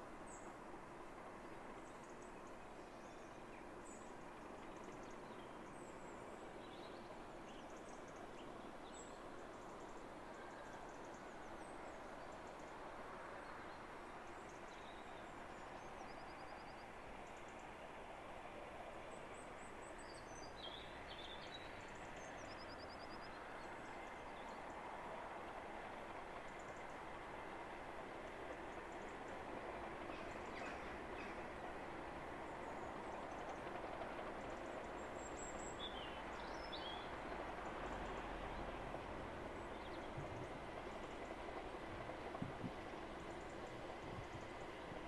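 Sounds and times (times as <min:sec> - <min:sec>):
distant locomotive rumble: 0:00.0 - 0:45.0.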